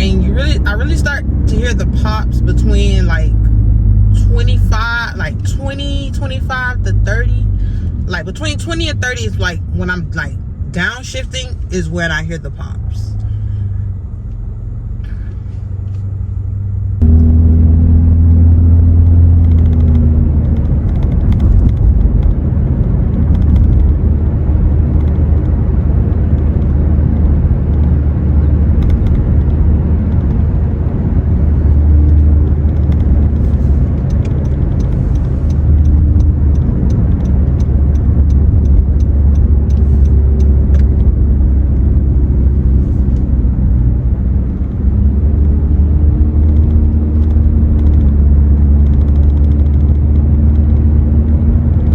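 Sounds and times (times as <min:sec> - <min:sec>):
loud car exhaust drone: 0:00.0 - 0:51.9.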